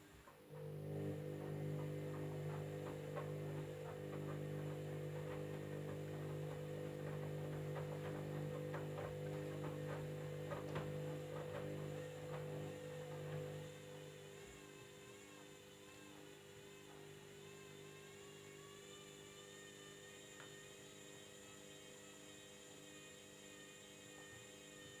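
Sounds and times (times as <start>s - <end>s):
washing machine humming: 0.0s - 21.4s.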